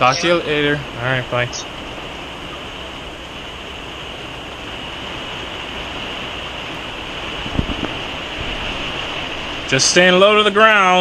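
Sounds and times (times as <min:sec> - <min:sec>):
storm wind and rain on a motorhome: 0:00.0 - 0:11.0.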